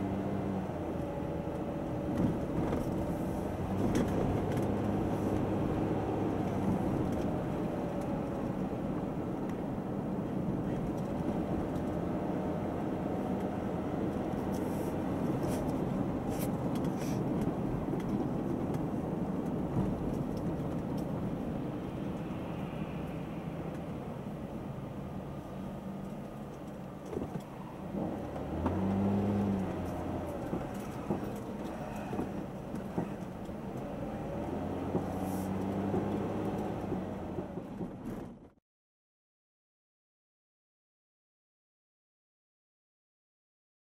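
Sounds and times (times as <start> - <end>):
car engine and road noise: 0.0 - 38.6.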